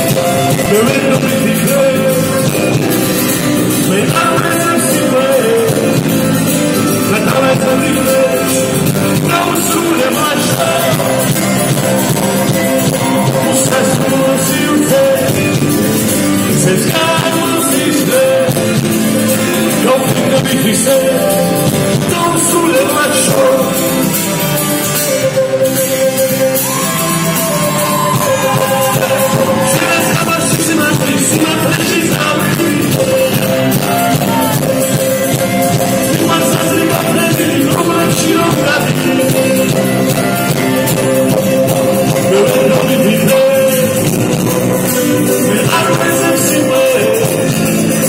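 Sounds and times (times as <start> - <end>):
acoustic guitar: 0.0 - 48.0
drums: 0.0 - 48.0
electric guitar: 0.0 - 48.0
man singing: 0.0 - 48.0.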